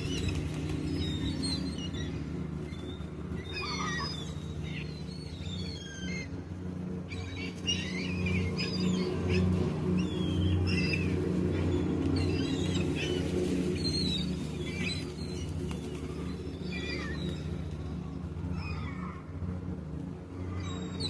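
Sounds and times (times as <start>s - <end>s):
gulls calling: 0.0s - 21.0s
steady low hum: 0.0s - 21.0s.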